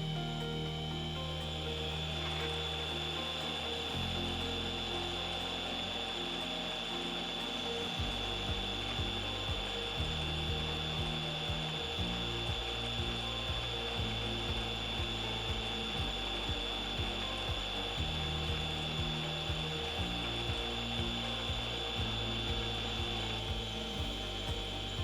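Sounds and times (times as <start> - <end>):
metal lathe gear whine: 0.0 - 25.0.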